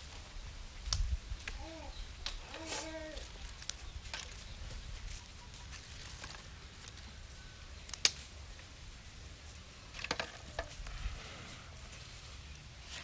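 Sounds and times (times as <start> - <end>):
twigs crackling in fire: 0.0 - 13.0.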